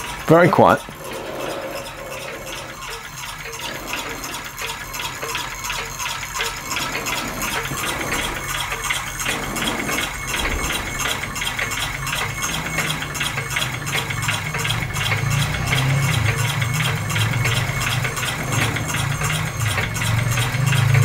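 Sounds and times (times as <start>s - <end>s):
engine rhythmic clicking and rattle: 0.0s - 21.0s
low hum: 0.8s - 20.6s.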